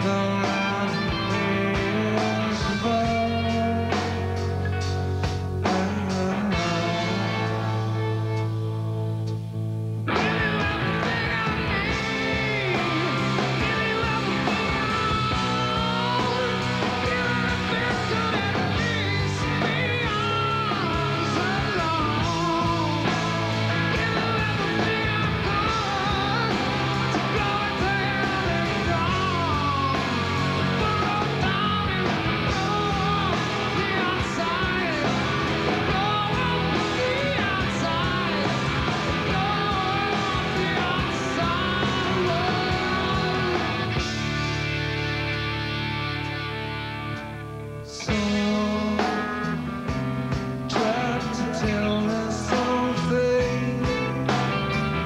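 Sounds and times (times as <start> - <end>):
man singing: 0.0 - 4.6, 5.6 - 8.2, 10.1 - 44.4, 47.9 - 50.0, 50.7 - 55.0
live rock band playing: 0.0 - 55.0.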